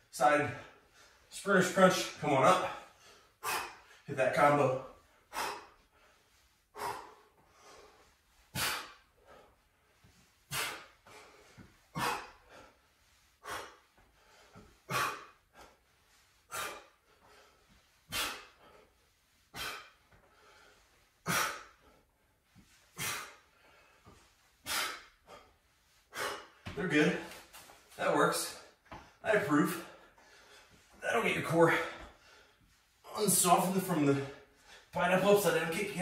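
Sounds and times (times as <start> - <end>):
person breathing hard: 2.0 - 4.1, 4.9 - 31.0, 31.7 - 33.1.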